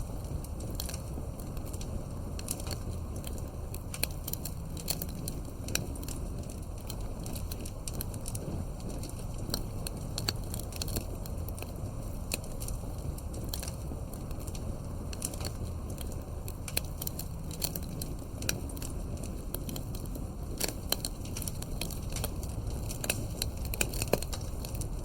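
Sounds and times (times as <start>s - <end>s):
low rumble of flames: 0.0s - 25.0s
wood crackling and popping: 0.0s - 25.0s.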